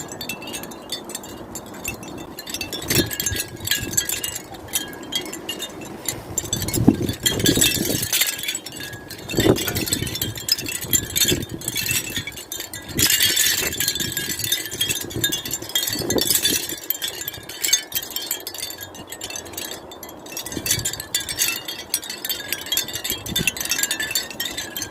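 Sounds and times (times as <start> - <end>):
wind chimes jingling: 0.0 - 24.9
wind gusts: 0.0 - 24.9.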